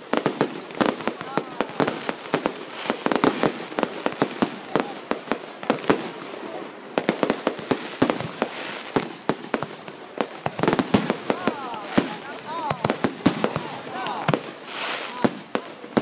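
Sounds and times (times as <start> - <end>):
continuous fireworks noise: 0.0 - 16.0.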